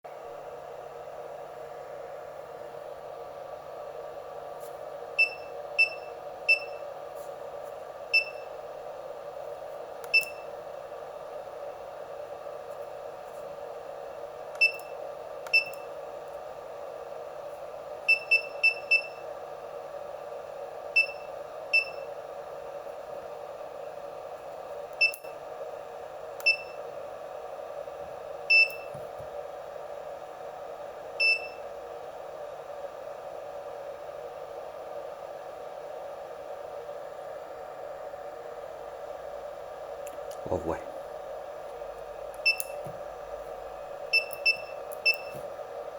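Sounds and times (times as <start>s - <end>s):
steady background hum: 0.1s - 45.9s.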